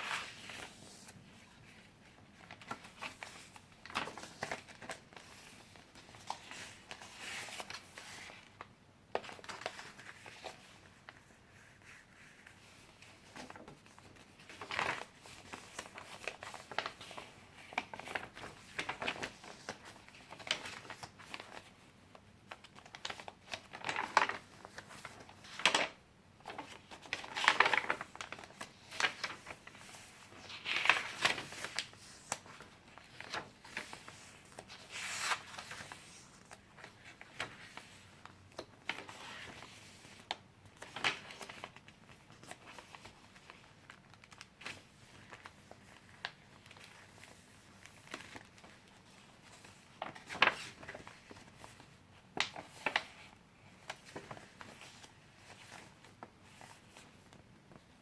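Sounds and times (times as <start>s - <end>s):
paper pages rustling: 0.0s - 21.9s, 22.5s - 58.0s.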